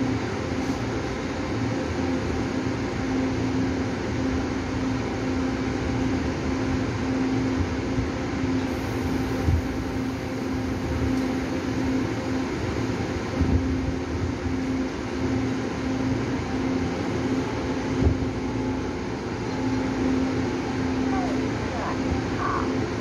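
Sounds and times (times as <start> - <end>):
constant low hum: 0.0 - 23.0
train running rumble: 0.0 - 23.0.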